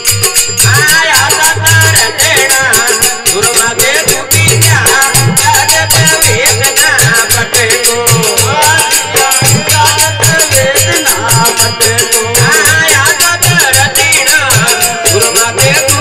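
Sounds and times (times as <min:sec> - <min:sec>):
dholak drum beat: 0:00.0 - 0:16.0
harmonium melody: 0:00.0 - 0:16.0
jingling hand percussion: 0:00.0 - 0:16.0.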